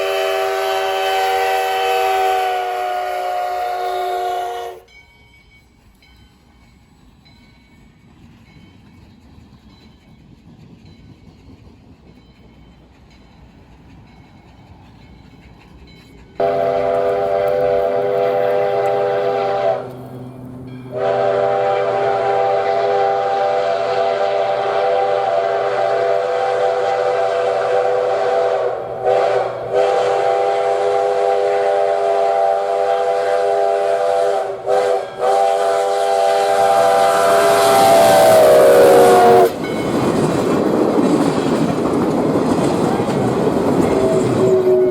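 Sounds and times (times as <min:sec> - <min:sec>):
steam locomotive chime whistle: 0:00.0 - 0:11.4, 0:14.1 - 0:40.4, 0:42.8 - 0:44.9
faint low train rumble: 0:00.0 - 0:44.9.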